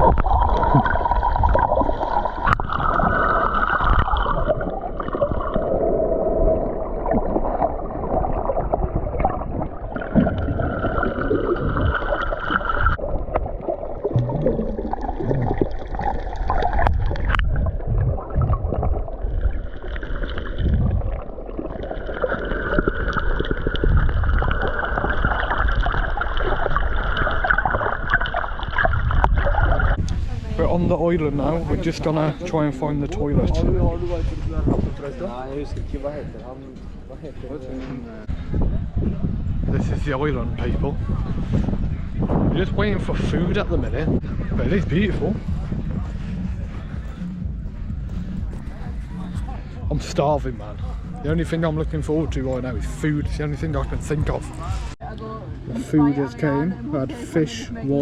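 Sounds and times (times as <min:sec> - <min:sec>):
water rushing past hull: 0:00.0 - 0:56.1.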